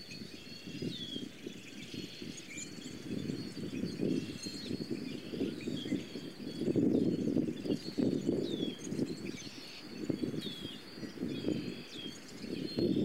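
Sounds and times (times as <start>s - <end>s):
birds chirping: 0.0s - 13.0s
high bird trill: 0.0s - 13.0s
wind rumble on microphone: 0.0s - 13.0s.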